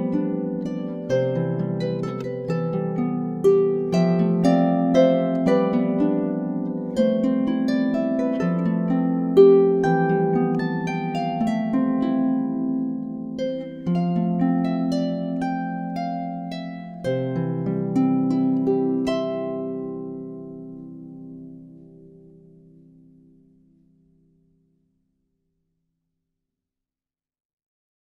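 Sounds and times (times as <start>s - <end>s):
solo harp music: 0.0s - 25.0s.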